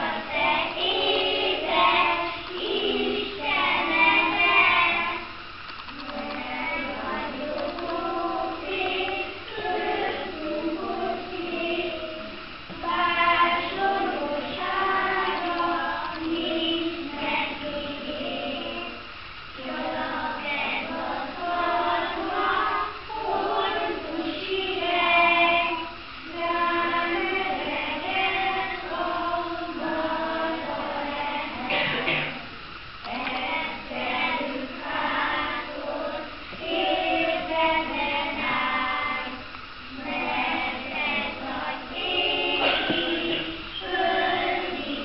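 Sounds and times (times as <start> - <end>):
young children singing: 0.0 - 45.0.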